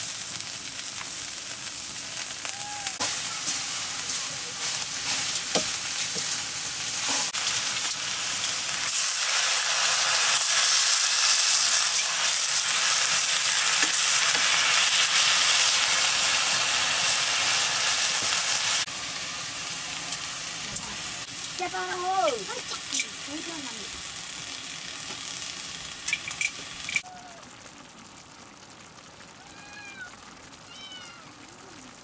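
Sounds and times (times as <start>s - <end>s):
greens sizzling in a wok: 0.0s - 32.0s.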